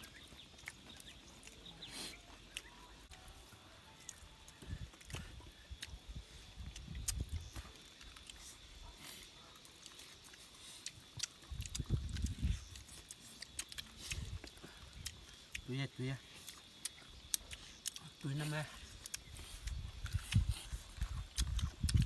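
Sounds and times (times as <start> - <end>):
chewing corn on the cob: 0.0 - 22.0.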